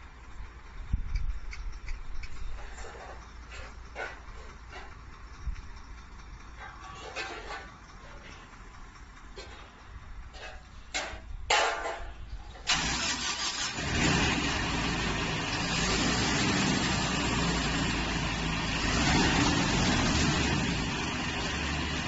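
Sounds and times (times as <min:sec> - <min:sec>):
harvester engine clattering: 0:00.0 - 0:22.0.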